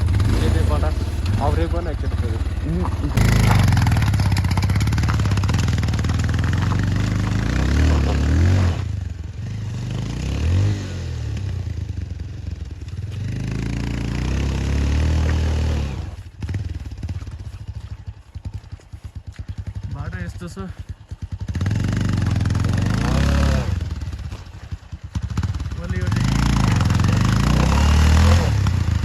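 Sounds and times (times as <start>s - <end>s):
motorcycle engine revving: 0.0s - 29.0s
motorcycle rattling: 0.0s - 29.0s.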